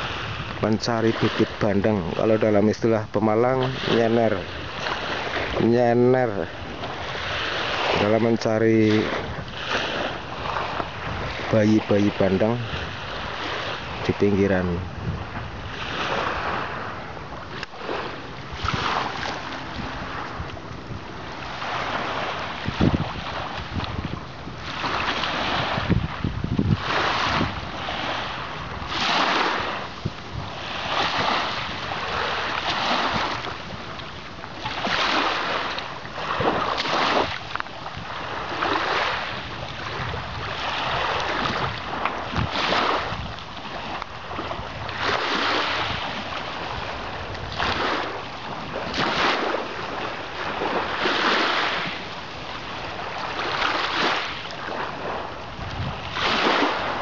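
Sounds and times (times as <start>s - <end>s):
small waves washing onto beach: 0.0s - 57.0s.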